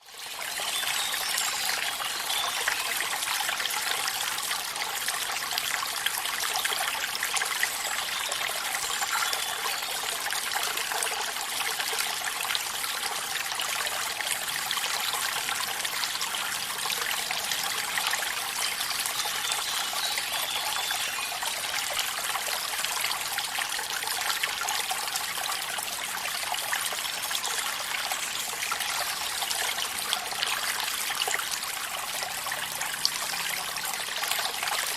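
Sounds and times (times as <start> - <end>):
stream trickling and splashing: 0.0 - 34.9.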